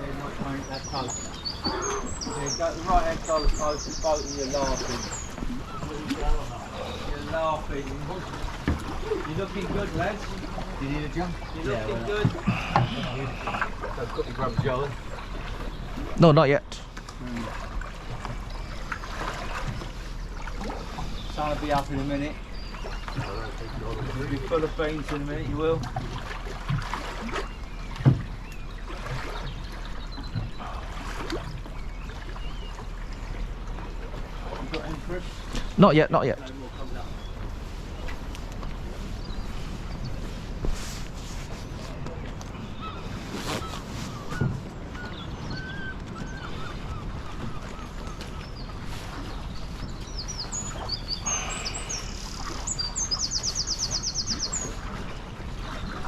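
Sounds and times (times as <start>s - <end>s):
songbird chirping and trilling: 0.0s - 16.7s, 18.2s - 25.5s, 27.2s - 56.0s
running water: 0.0s - 56.0s.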